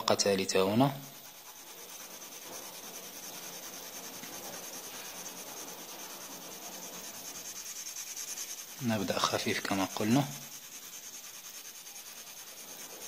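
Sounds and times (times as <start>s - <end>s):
pencil scratching on paper: 0.3s - 13.0s.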